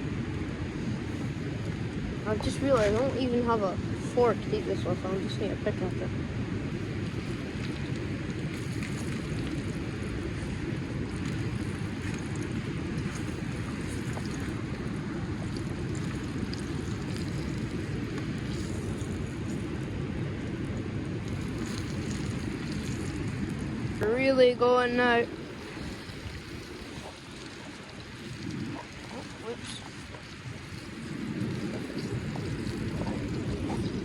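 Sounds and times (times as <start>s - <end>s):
river water flowing: 0.0s - 34.0s
wind: 0.0s - 34.0s.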